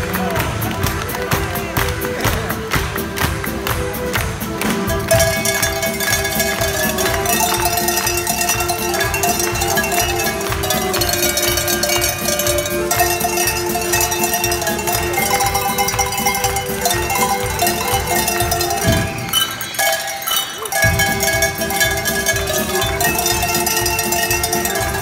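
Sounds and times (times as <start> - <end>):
cowbells playing a melody: 0.0 - 25.0
drum kit beat: 0.0 - 25.0.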